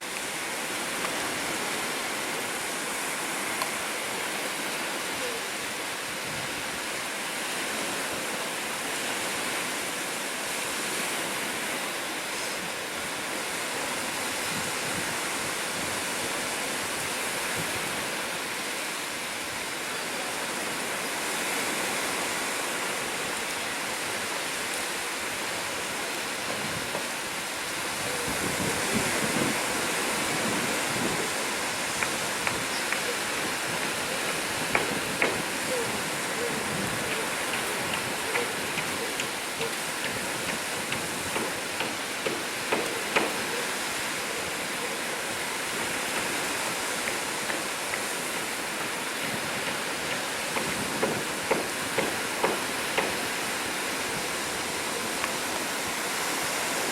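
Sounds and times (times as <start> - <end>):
surf washing on shore: 0.0 - 56.9.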